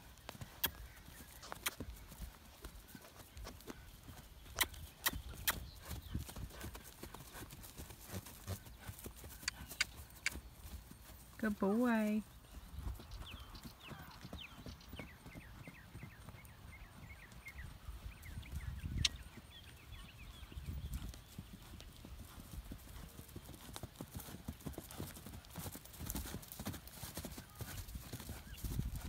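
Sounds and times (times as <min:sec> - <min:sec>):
hoofbeats on grass and dirt: 0:00.0 - 0:29.0.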